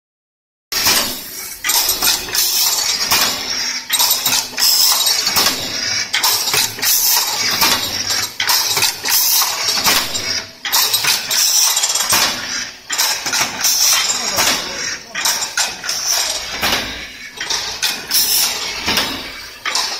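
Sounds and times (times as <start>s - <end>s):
machine clanking metal on metal: 0.8s - 19.9s.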